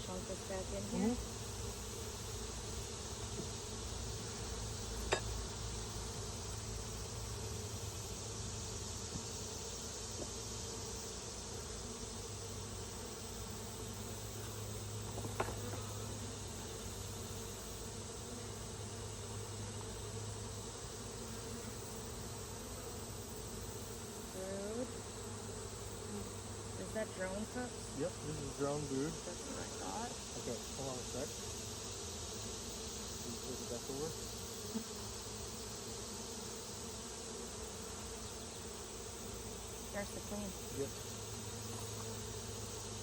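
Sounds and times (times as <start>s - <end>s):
honey bees buzzing: 0.0s - 43.0s.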